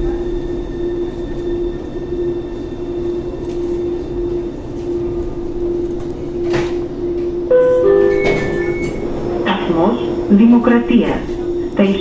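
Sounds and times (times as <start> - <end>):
train rolling noise: 0.0 - 12.0.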